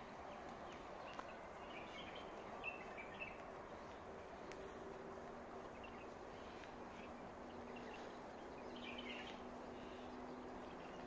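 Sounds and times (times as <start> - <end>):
low steady hum: 0.0 - 11.0
bird chirps: 0.2 - 4.0, 5.6 - 11.0.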